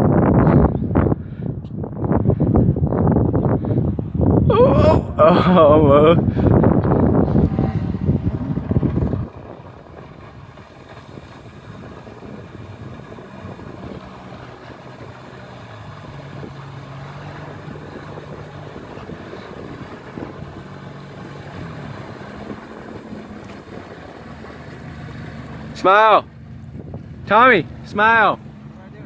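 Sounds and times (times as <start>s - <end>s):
wind noise: 0.0s - 28.5s
jet ski engine running: 0.0s - 29.0s
water noise: 0.0s - 29.0s.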